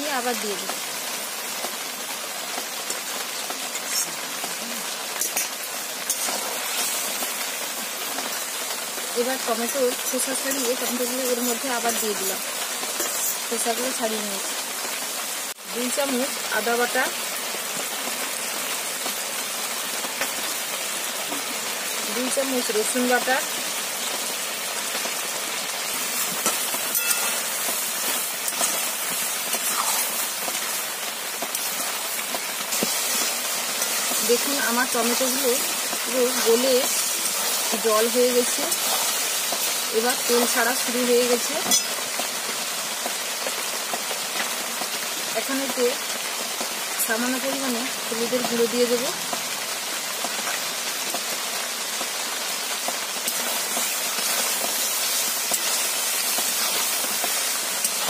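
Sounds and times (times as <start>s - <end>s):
chicken sizzling in a pan: 0.0s - 58.0s.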